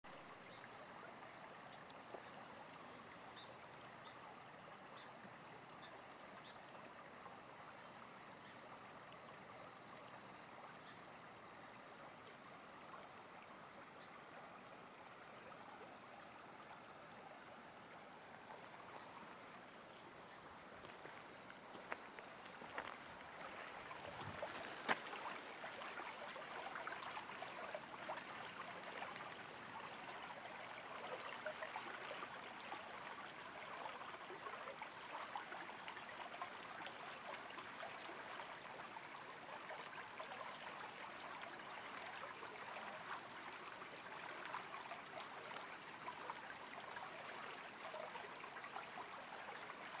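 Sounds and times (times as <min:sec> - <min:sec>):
creek flowing over gravel: 0:00.1 - 0:50.0.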